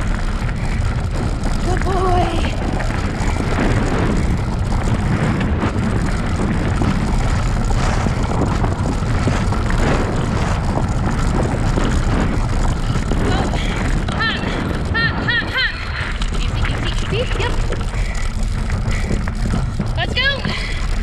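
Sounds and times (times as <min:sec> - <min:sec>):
bicycle tyres rolling on dirt: 0:00.0 - 0:21.0
wind buffeting microphone: 0:00.0 - 0:21.0.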